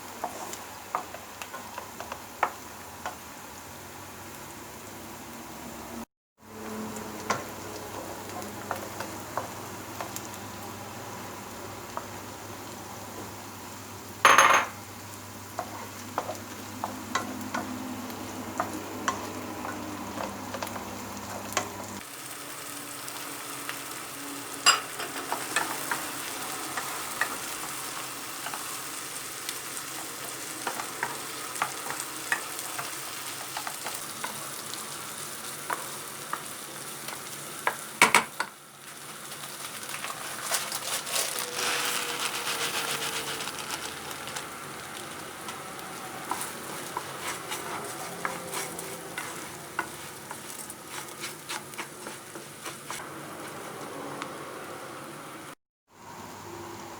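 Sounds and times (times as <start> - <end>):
food sizzling in a pan: 0.0 - 56.4.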